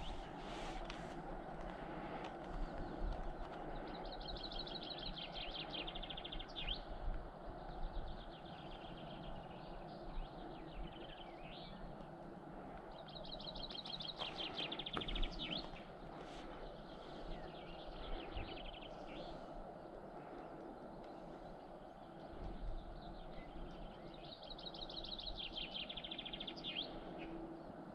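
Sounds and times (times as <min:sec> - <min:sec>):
low background noise: 0:00.0 - 0:27.9.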